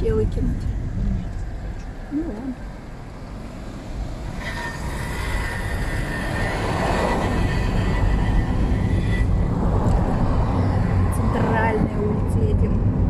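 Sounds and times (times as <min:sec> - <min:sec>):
moving car road and engine noise: 0:00.0 - 0:13.0
steady high whine: 0:00.0 - 0:13.0.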